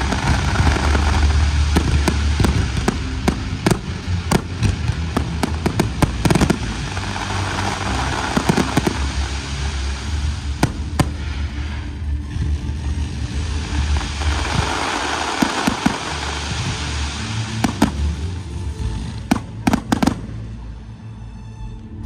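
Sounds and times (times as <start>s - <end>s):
fireworks bangs and cracks: 0.0s - 20.5s
steady low rumble: 0.0s - 22.0s.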